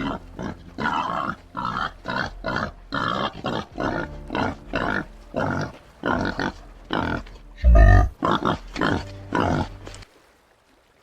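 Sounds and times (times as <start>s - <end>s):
peccary grunting: 0.0s - 9.8s.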